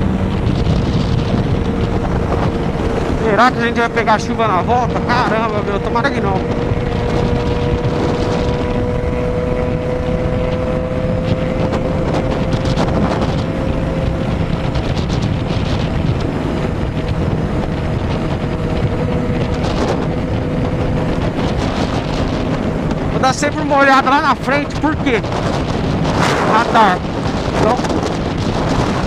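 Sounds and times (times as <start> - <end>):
motorcycle engine cruising: 0.0 - 29.0
wind rush on microphone: 0.0 - 29.0.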